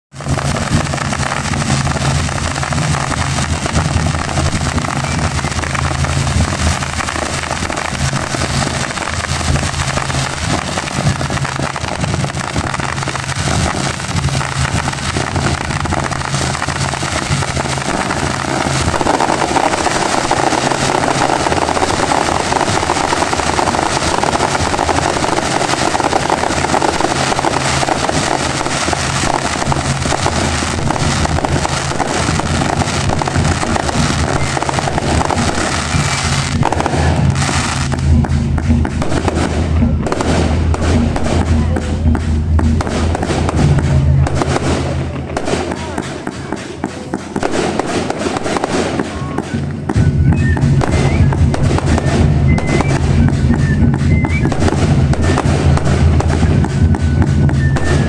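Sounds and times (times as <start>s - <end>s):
fireworks bursting and crackling: 0.1s - 58.0s.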